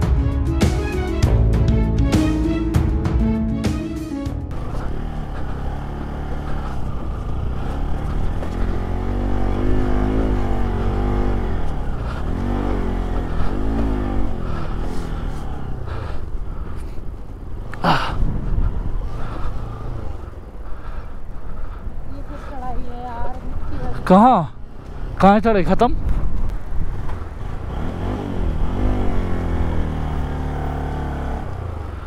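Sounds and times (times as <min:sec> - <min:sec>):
motorcycle engine revving: 0:04.5 - 0:22.6, 0:23.3 - 0:32.0.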